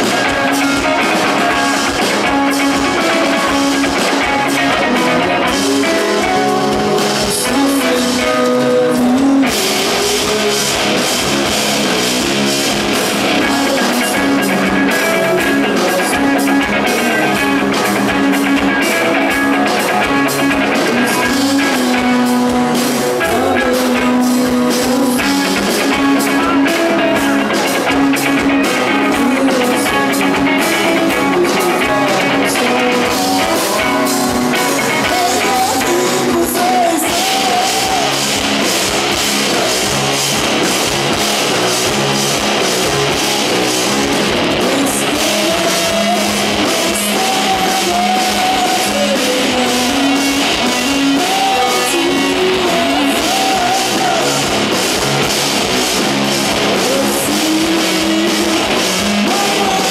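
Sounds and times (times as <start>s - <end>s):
rock band playing loud: 0.0s - 59.9s.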